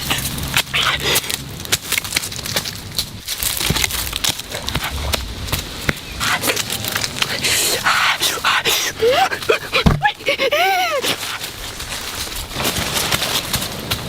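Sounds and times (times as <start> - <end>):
steady rustling: 1.8 - 14.0.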